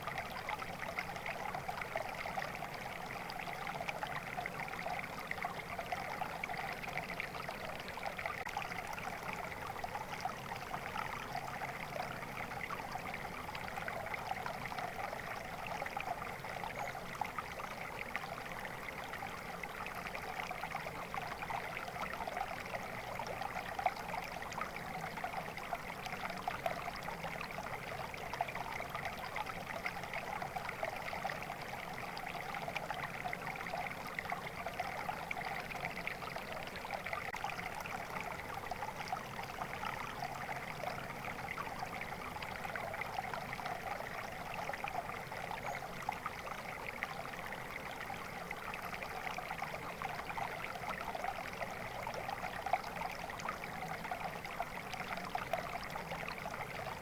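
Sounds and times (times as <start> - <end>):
stream water babbling: 0.0 - 57.0.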